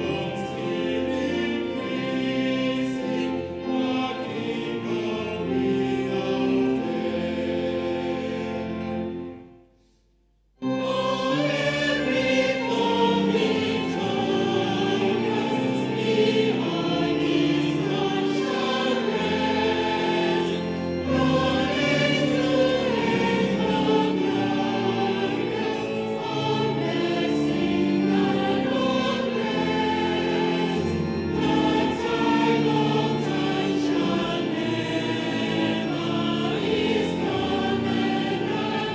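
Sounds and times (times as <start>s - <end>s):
choir singing a hymn: 0.0s - 9.5s, 10.6s - 38.9s.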